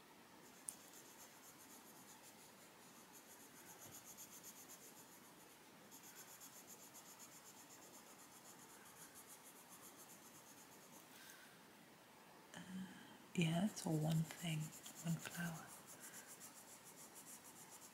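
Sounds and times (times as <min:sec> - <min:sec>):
coloured pencil scratching on paper: 0:00.4 - 0:11.1, 0:13.4 - 0:17.9.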